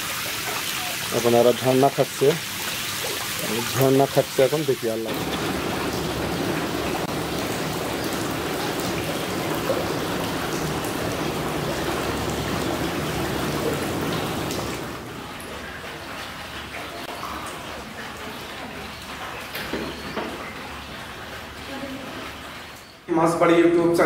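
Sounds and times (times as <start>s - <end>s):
water spray pattering on water: 0.0s - 23.0s.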